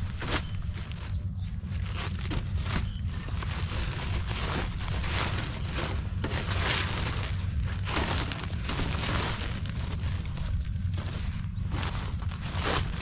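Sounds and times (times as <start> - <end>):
plastic sacks rustling and crinkling: 0.0 - 13.0
steady low rumble: 0.0 - 13.0.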